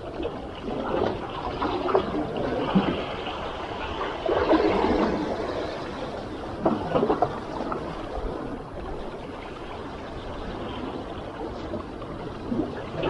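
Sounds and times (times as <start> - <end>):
small waves washing against rocks: 0.0 - 13.0.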